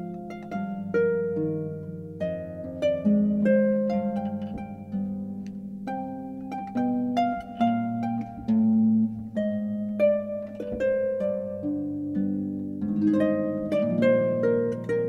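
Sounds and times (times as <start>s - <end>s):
harp playing gentle notes: 0.0s - 15.0s.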